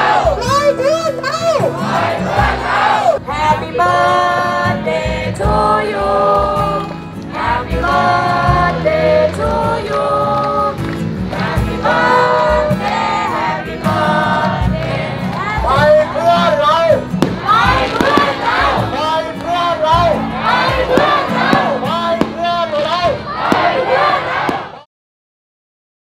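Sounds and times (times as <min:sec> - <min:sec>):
group of people singing in unison: 0:00.0 - 0:00.5, 0:01.6 - 0:24.8.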